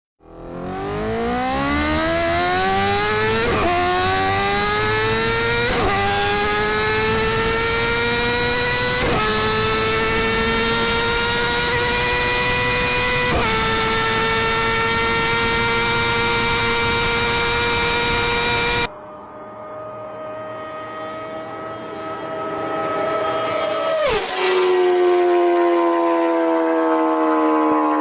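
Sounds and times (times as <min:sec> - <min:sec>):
motorcycle engine accelerating: 0:00.2 - 0:28.0.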